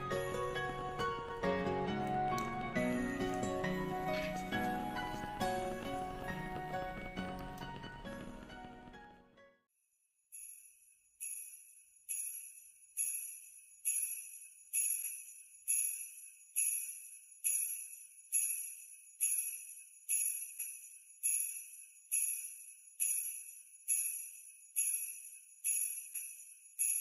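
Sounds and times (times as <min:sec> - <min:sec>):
jingle bells shaken: 0:00.0 - 0:08.6, 0:10.3 - 0:27.0.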